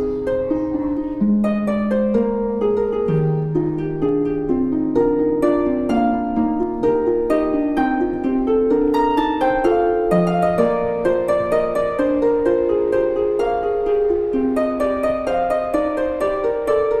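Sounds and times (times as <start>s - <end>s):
plucked string melody: 0.0s - 17.0s.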